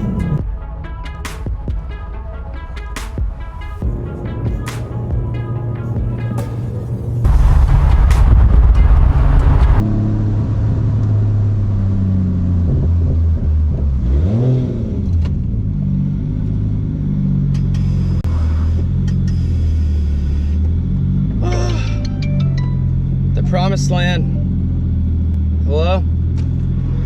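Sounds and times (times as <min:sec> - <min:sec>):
car engine running: 0:00.0 - 0:00.5, 0:03.6 - 0:27.0.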